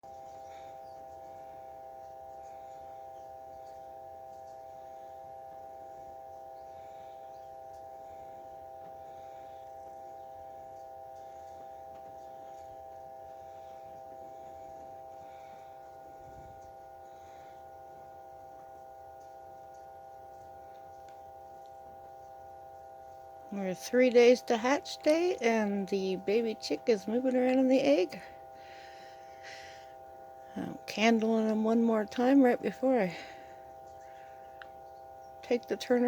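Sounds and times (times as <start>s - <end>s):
appliance electrical hum: 0.0s - 36.0s.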